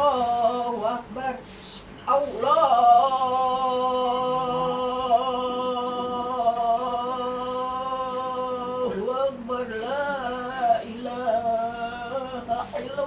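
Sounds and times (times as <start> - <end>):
person chanting: 2.2 - 13.0.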